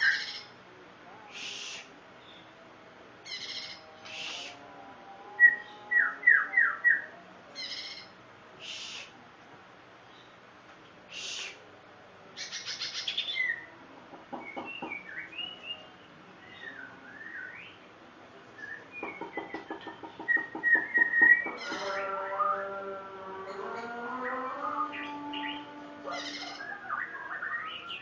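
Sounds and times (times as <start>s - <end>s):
bird singing varied song: 0.0s - 0.6s, 1.4s - 2.6s, 3.2s - 9.1s, 12.4s - 17.9s, 18.5s - 28.0s.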